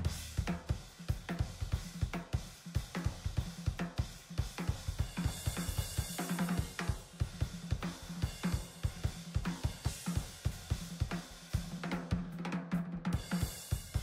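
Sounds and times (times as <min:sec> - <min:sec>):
drum kit groove: 0:00.0 - 0:14.0.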